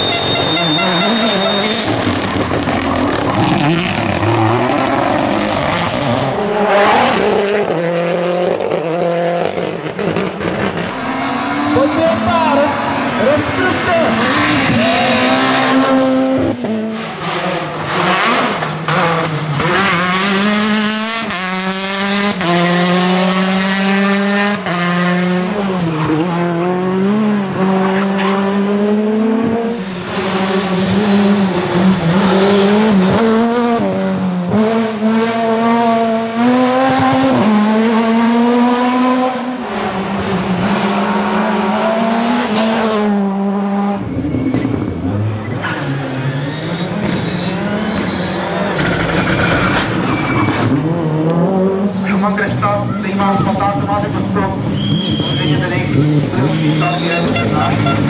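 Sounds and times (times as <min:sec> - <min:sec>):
rally cars passing at full throttle: 0:00.0 - 0:58.0.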